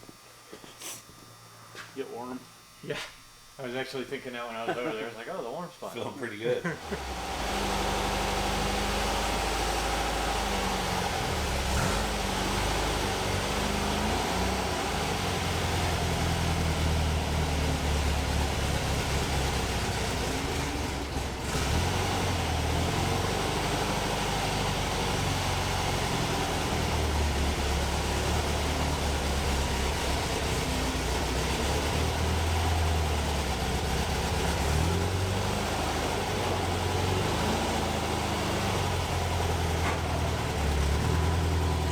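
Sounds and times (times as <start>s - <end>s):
van engine running: 6.8s - 41.9s.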